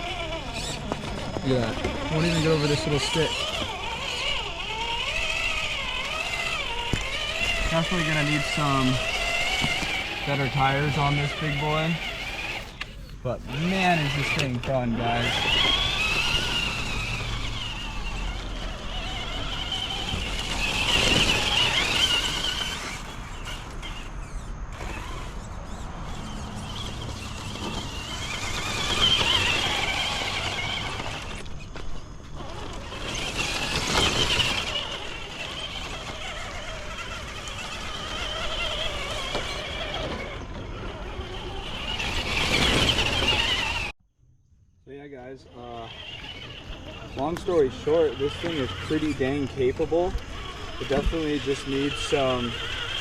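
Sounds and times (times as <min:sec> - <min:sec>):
electric motor whining: 0:00.0 - 0:44.0, 0:45.4 - 0:53.0.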